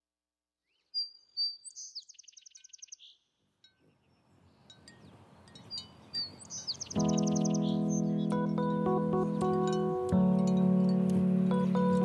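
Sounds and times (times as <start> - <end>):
sparrow singing with trill: 0.6 - 12.0.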